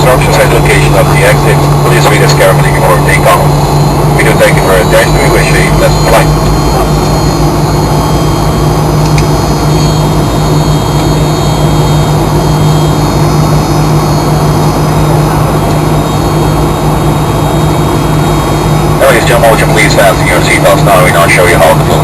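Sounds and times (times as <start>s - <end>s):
airliner cabin engine hum: 0.0s - 22.0s
faint high whining tones: 0.0s - 22.0s.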